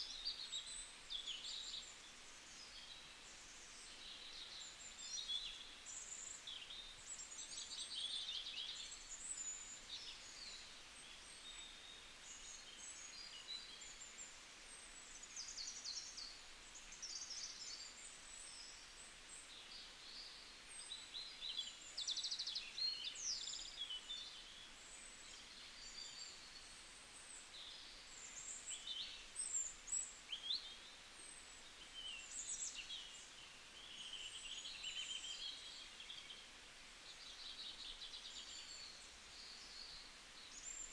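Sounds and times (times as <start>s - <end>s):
faint steady hiss: 0.0s - 40.9s
small birds chirping: 0.0s - 40.9s.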